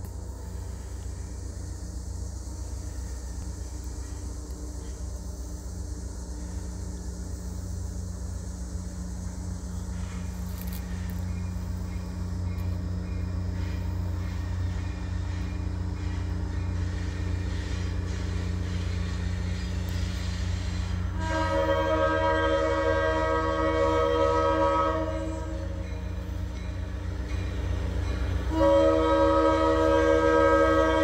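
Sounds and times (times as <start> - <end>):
locomotive engine rumble: 0.0 - 31.0.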